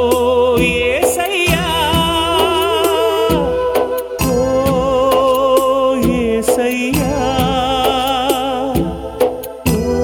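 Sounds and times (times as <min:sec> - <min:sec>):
devotional song with steady beat: 0:00.0 - 0:10.0.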